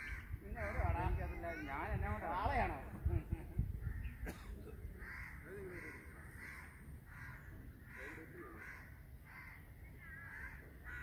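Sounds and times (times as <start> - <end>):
bird calling: 0.0 - 2.0, 3.8 - 11.0.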